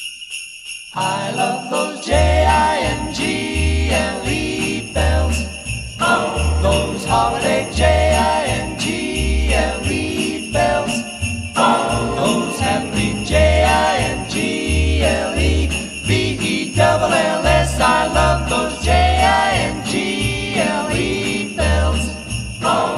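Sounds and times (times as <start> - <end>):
christmas music: 0.0 - 22.9
sleigh bells jingling: 0.0 - 22.9.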